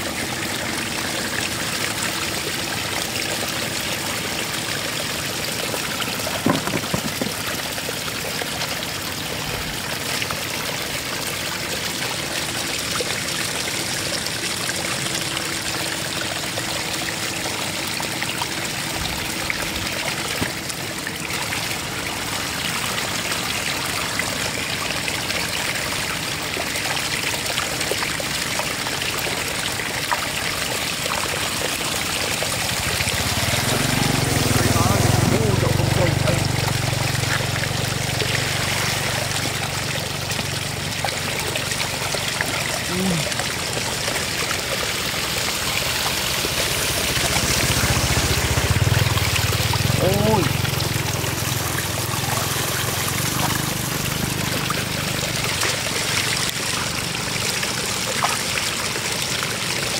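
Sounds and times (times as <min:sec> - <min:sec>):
floodwater running: 0:00.0 - 0:59.9
water patters and splashes: 0:00.0 - 0:59.9.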